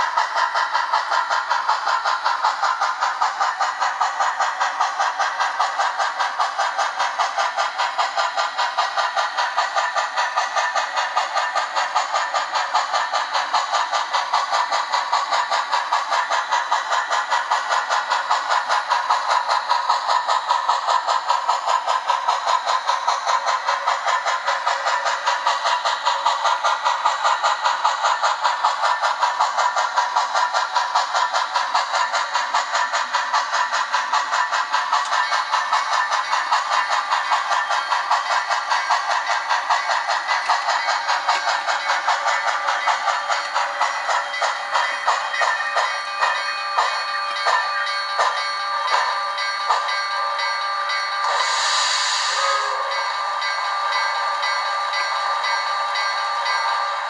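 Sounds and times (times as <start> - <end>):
model steam locomotive chuffing: 0.0 - 57.0.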